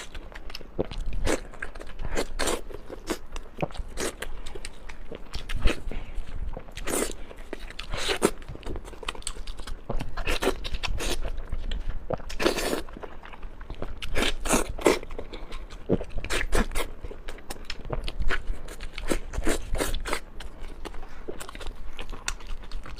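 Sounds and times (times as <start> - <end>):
wet chewing and smacking: 0.0 - 22.9.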